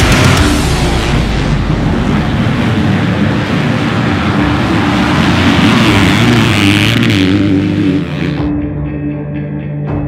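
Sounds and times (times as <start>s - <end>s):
motocross bikes at full throttle: 0.0s - 8.6s.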